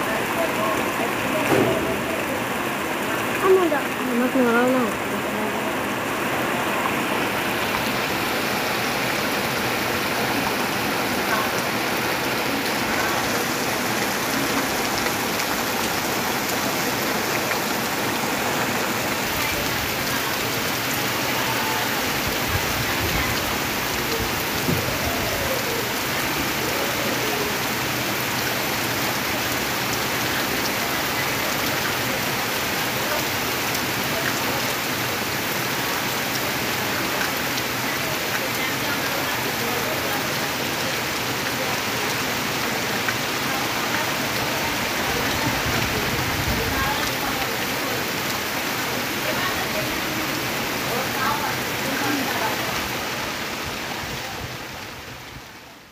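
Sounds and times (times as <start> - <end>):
heavy rain on foliage: 0.0 - 55.9.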